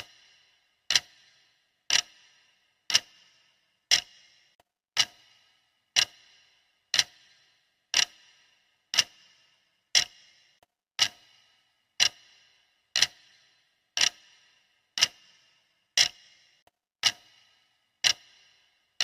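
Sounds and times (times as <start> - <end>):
clock ticking: 0.0 - 19.0.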